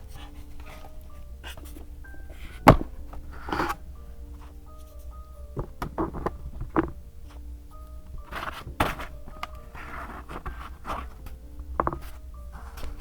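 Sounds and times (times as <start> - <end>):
paper rustling: 0.0 - 7.4, 8.1 - 13.0
soft background music: 0.0 - 13.0.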